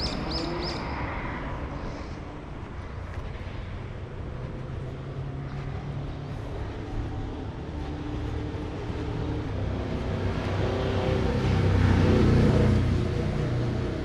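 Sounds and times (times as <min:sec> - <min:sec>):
vehicle engine approaching: 0:00.0 - 0:14.0.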